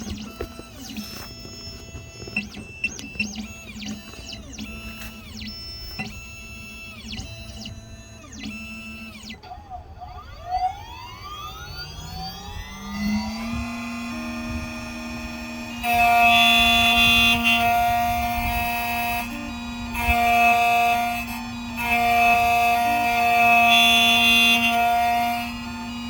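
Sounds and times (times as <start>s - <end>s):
cutter grinding key blank: 0.0s - 9.1s, 13.4s - 26.0s
key cutting machine whine: 0.0s - 26.0s.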